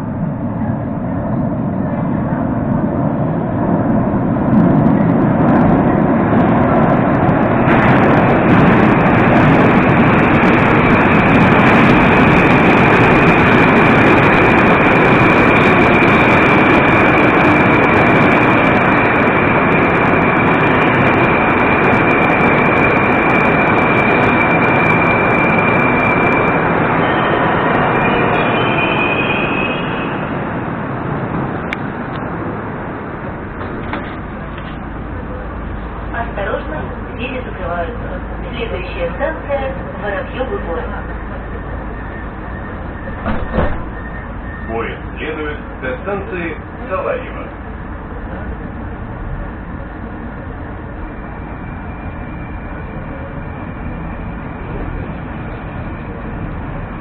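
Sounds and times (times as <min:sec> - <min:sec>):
high train whine: 0:00.0 - 0:57.0
train rumble: 0:00.0 - 0:57.0.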